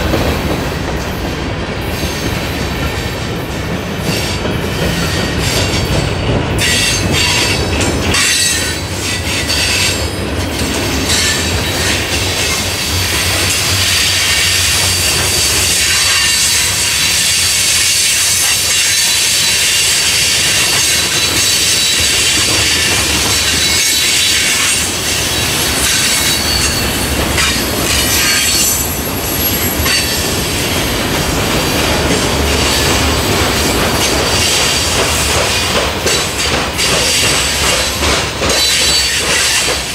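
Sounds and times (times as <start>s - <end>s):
low rumble of train cars: 0.0s - 39.9s
train wheels squealing on rails: 0.4s - 39.9s.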